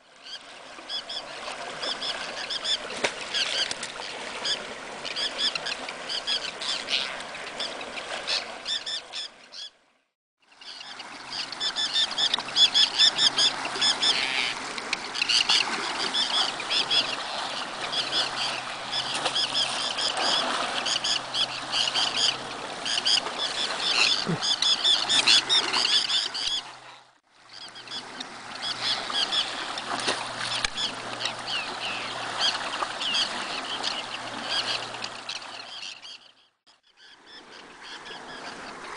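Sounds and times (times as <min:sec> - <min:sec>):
flock of terns calling: 0:00.2 - 0:09.7, 0:10.5 - 0:38.8.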